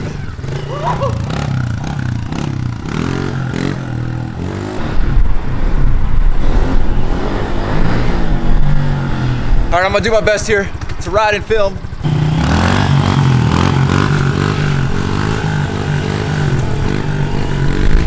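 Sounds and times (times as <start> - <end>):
dirt bike engine revving: 0.0 - 5.7, 6.3 - 9.7, 11.8 - 18.0.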